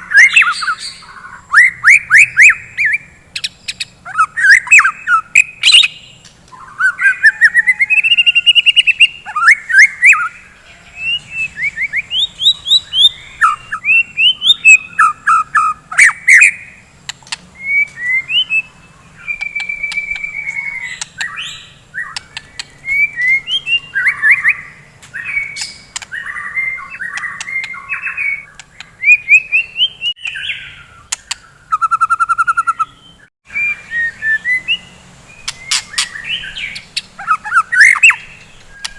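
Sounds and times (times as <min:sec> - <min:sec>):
bird singing whistles and trills: 0:00.0 - 0:16.8, 0:17.6 - 0:38.9.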